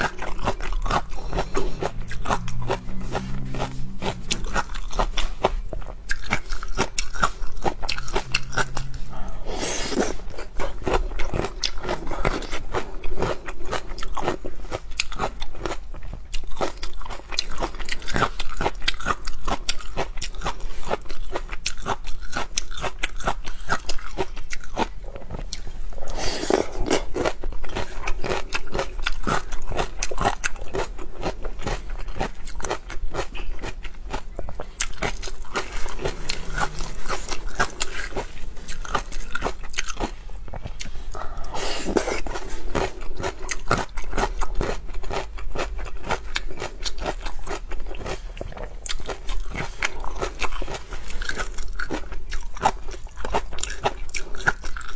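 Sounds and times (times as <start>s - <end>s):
crunching and chewing: 0.0s - 54.9s.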